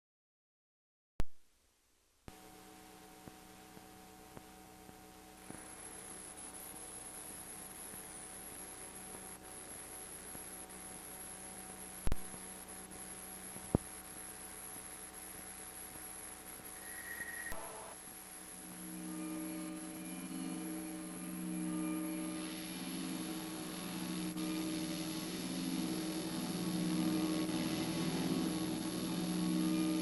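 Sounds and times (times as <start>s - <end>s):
electrical hum with hiss: 1.3s - 30.0s
high thin whine: 4.4s - 30.0s.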